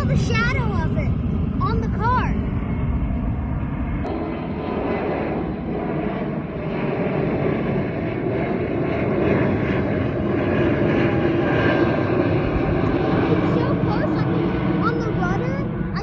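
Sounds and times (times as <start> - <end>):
jet airliner passing overhead: 0.0 - 16.0.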